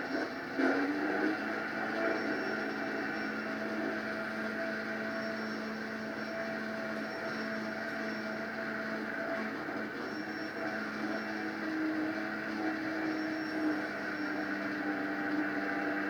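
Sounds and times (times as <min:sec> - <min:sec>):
small boat engine droning: 0:00.0 - 0:16.0.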